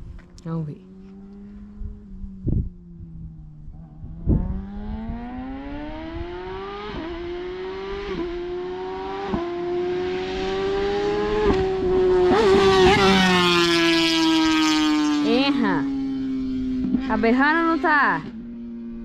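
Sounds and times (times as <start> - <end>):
sport bike accelerating hard: 0.0 - 19.0.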